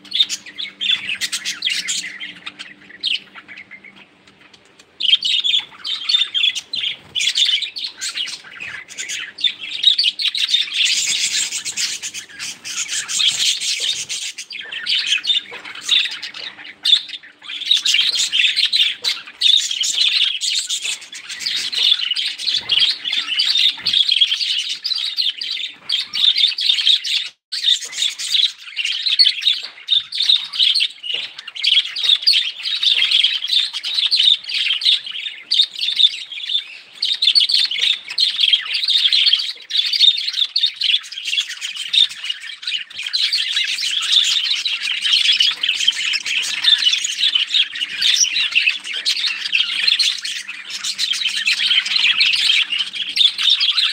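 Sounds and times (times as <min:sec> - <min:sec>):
flock of budgerigars chattering: 0:00.0 - 0:53.9.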